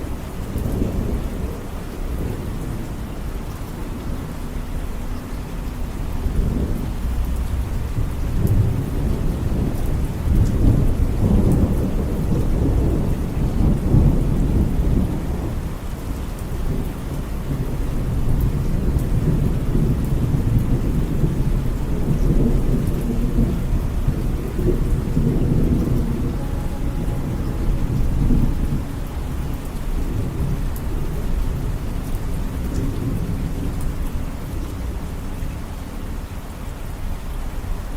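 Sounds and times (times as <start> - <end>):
steady rain: 0.0 - 37.9
thunder rumbling: 0.0 - 37.9.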